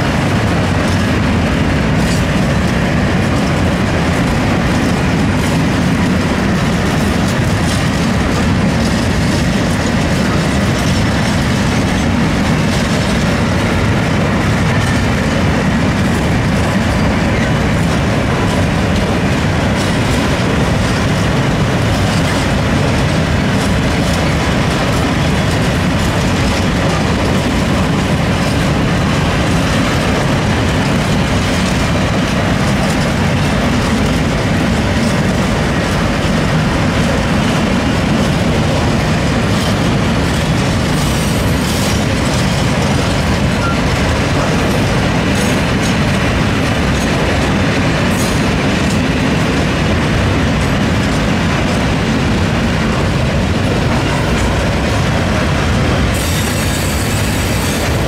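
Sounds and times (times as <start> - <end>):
train wheels running on rails: 0.0 - 58.0.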